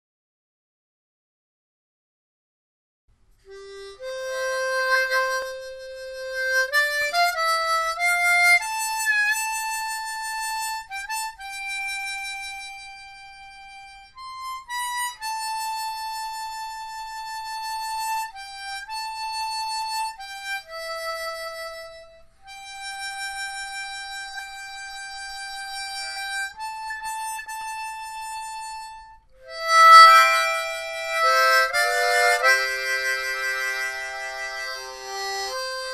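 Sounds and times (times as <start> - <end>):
harmonica playing slow tune: 3.5 - 35.9.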